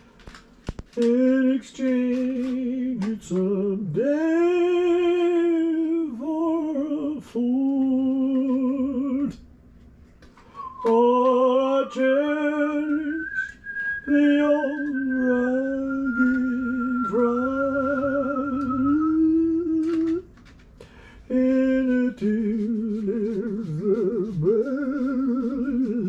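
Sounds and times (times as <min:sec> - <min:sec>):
person singing wordless hymn: 0:00.9 - 0:09.4, 0:10.6 - 0:20.3, 0:21.0 - 0:26.0.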